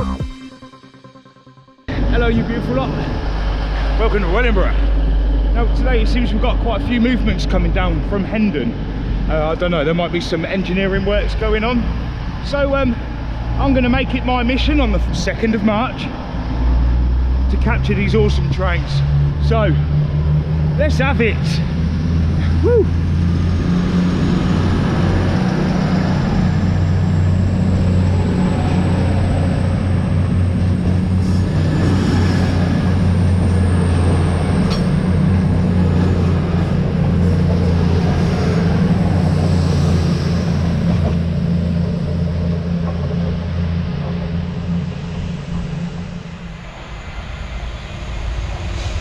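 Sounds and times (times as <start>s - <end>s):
freight train passing: 0.0s - 49.0s.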